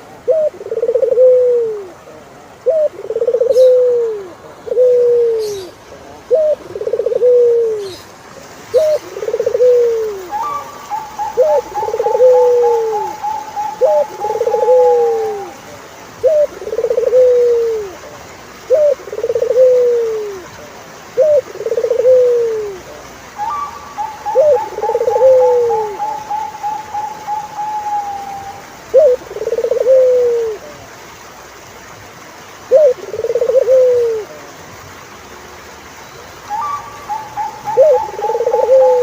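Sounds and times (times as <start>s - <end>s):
turtle dove cooing: 0.0s - 31.1s, 32.6s - 34.7s, 36.4s - 39.0s.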